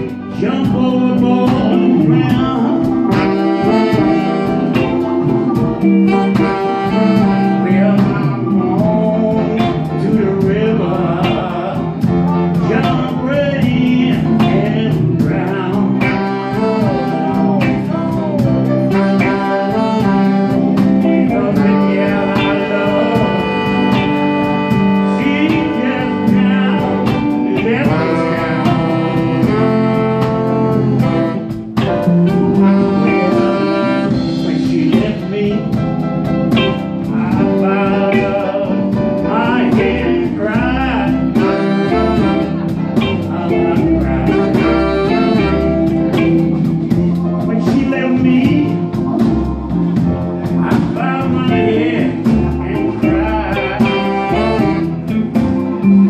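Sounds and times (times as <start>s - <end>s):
live blues jazz band playing: 0.0s - 56.0s
saxophone and trombone horn lines: 0.0s - 56.0s.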